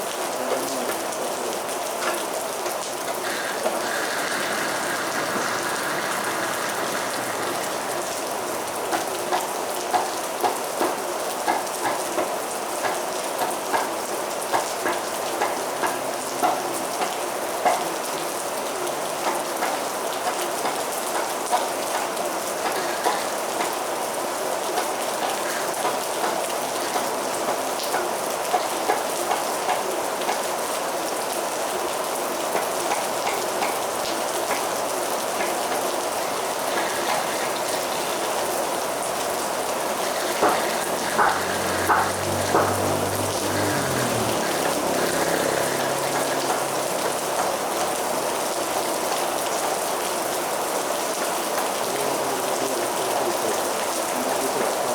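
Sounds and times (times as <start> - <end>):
heavy rain falling: 0.0 - 54.9
raindrops striking as sharp clicks: 2.0 - 17.9, 19.2 - 30.5, 32.4 - 49.9.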